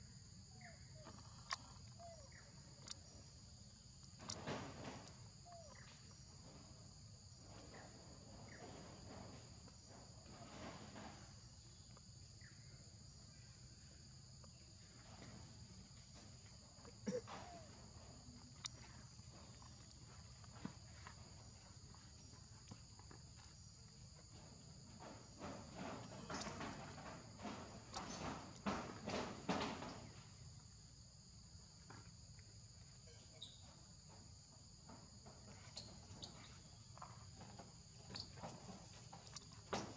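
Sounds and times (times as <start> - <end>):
faint insect chorus: 0.0 - 39.9.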